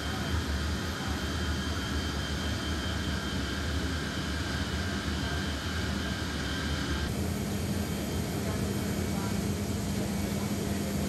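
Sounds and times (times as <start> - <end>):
jet engines running steadily: 0.0 - 11.0.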